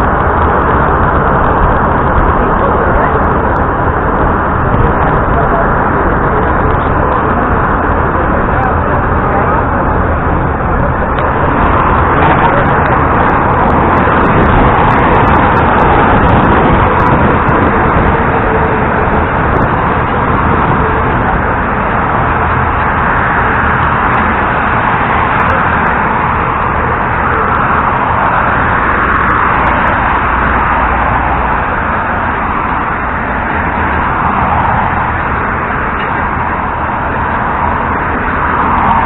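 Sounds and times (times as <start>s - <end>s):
bus engine and road rumble: 0.0s - 39.0s
wind rushing over microphone: 0.0s - 39.0s.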